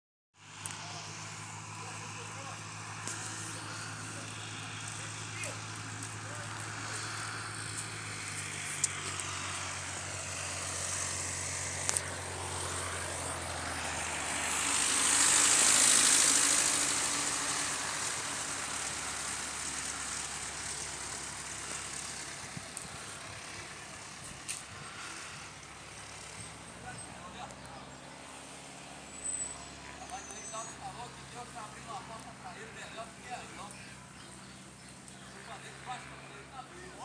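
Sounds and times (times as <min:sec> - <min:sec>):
propeller plane passing by: 0:00.4 - 0:37.0.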